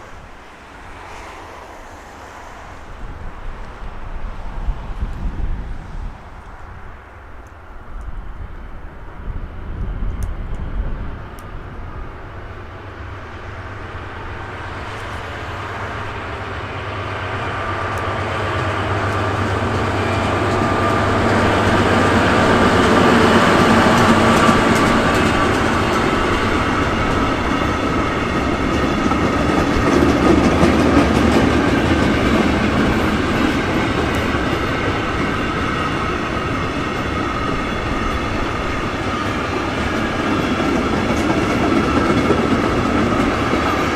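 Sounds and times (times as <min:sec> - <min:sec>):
train wheels rolling on rails: 0:00.0 - 0:43.9
locomotive low hum: 0:01.7 - 0:43.9.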